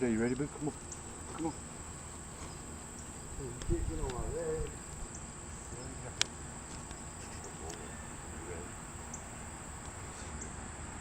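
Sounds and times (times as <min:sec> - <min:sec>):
high-pitched insect drone: 0:00.0 - 0:10.8.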